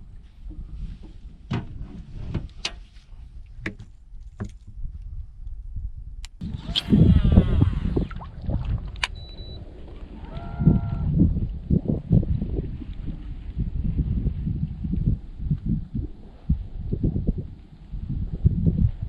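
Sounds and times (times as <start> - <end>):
water against hull: 0.0 - 5.0, 6.4 - 19.0.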